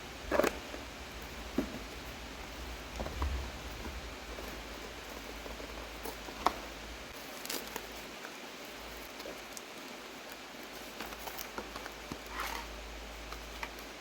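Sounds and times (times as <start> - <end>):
faint hiss: 0.0 - 14.0
packaging rustling: 0.2 - 13.8.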